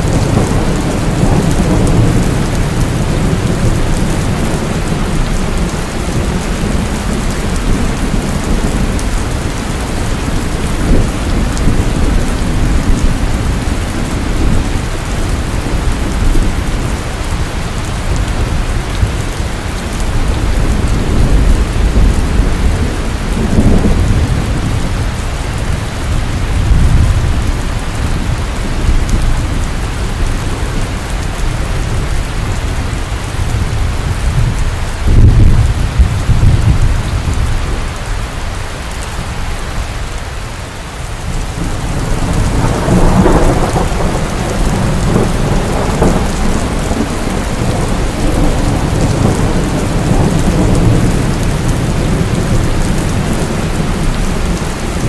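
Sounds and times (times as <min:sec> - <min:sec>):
thunder rumbling: 0:00.0 - 0:40.2, 0:40.8 - 0:55.0
heavy rain falling: 0:00.0 - 0:55.0.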